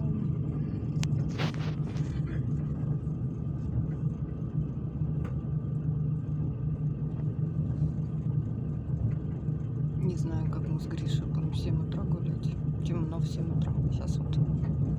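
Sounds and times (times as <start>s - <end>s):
train rumbling inside carriage: 0.0s - 14.9s.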